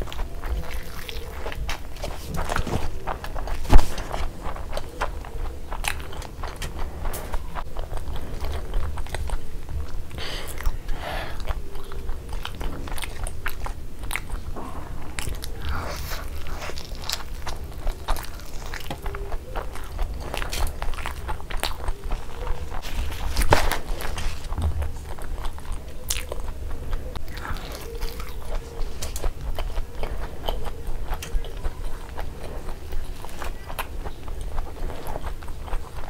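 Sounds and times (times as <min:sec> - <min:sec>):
chewing and biting food: 0:00.0 - 0:36.0
wet mouth sounds: 0:00.0 - 0:36.0.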